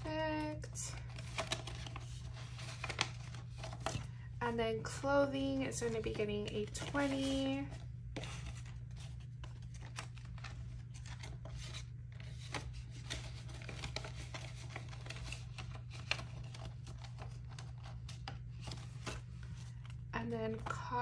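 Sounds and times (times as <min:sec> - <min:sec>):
paper banknotes rustling: 0:00.0 - 0:21.0
steady low hum: 0:00.0 - 0:21.0.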